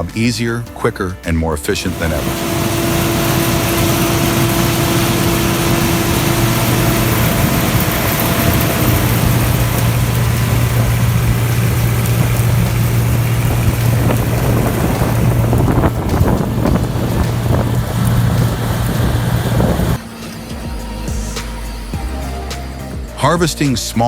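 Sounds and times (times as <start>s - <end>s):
farm machine engine running: 1.8s - 21.9s.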